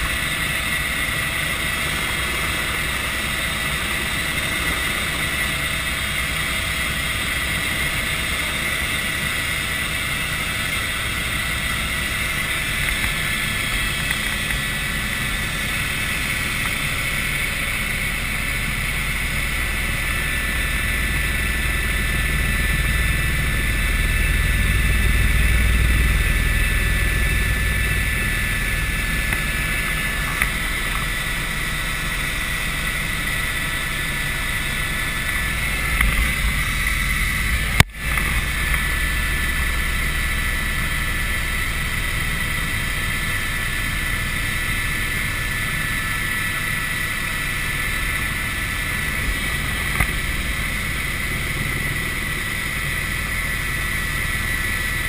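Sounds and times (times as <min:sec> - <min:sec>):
helicopter rotor and engine drone: 0:00.0 - 0:55.0
high whine: 0:00.0 - 0:55.0.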